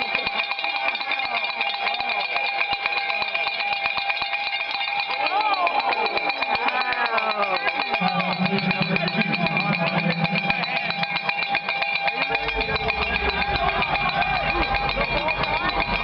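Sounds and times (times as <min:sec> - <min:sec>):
cowbell clanking: 0:00.0 - 0:16.0
crowd din: 0:00.0 - 0:16.0
music: 0:02.4 - 0:16.0.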